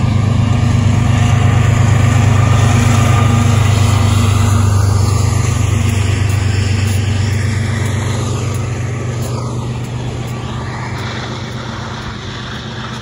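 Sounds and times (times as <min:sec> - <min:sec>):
locomotive engines droning: 0:00.0 - 0:13.0
train running noise: 0:00.0 - 0:13.0.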